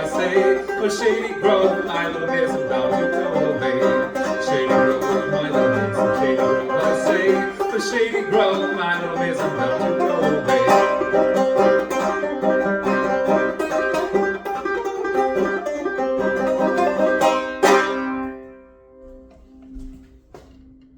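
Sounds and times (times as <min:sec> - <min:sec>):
banjo playing fast: 0:00.0 - 0:18.6.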